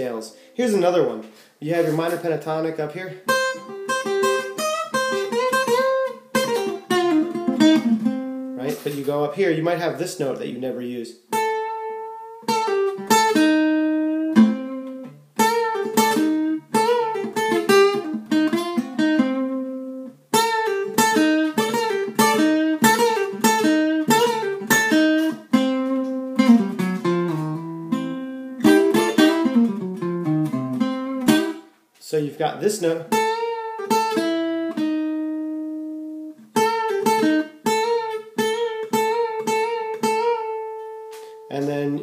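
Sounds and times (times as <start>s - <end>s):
acoustic guitar blues licks: 0.0s - 10.2s, 11.2s - 31.7s, 32.5s - 42.0s.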